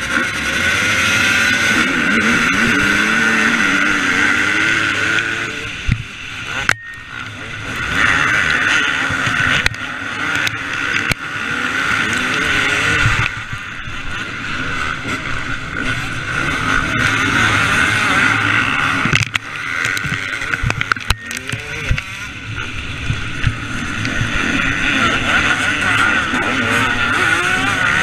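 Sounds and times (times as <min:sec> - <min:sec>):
motocross bike engine revving: 0:00.0 - 0:28.0
steady rushing noise: 0:00.0 - 0:28.0.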